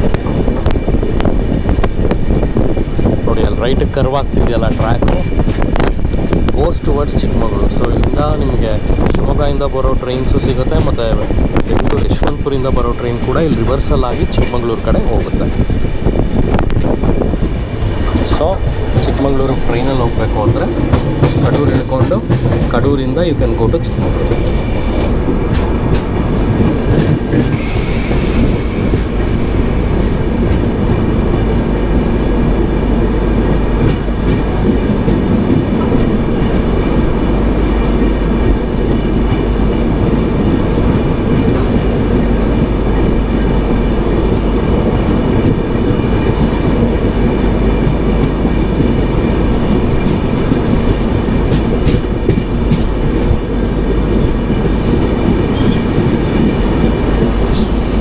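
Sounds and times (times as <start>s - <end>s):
rail clicks: 0.0s - 58.0s
train wheels rumbling on track: 0.0s - 58.0s.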